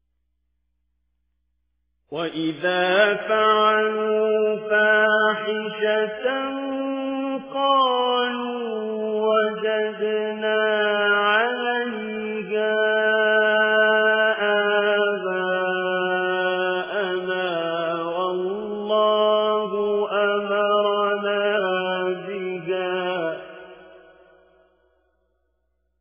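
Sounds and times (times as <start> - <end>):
person chanting melodically: 2.2 - 24.2.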